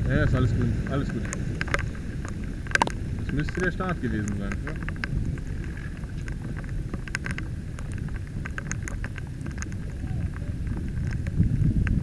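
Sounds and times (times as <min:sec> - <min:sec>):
boat motor rumble: 0:00.0 - 0:12.0
raindrops landing near microphone: 0:00.0 - 0:12.0
wind: 0:00.0 - 0:12.0.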